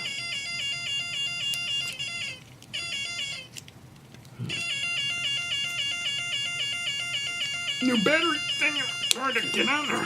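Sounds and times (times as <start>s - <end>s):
rapid repeating electronic alarm tone: 0.0s - 3.5s, 4.5s - 10.0s.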